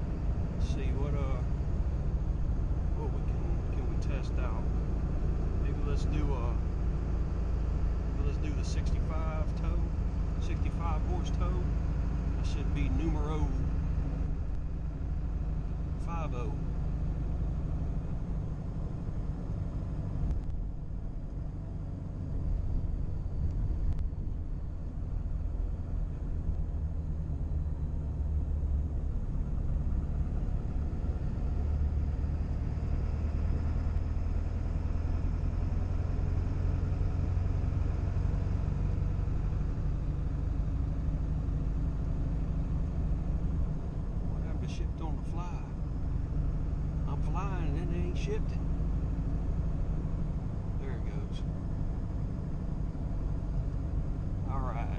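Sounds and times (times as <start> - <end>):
road noise: 0.0 - 54.9
truck engine rumble inside cab: 0.0 - 54.9.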